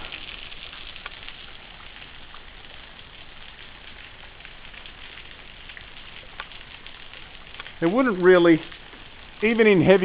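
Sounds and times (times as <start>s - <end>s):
water dripping: 0.0s - 10.0s
water trickling down waterfall: 0.0s - 10.0s.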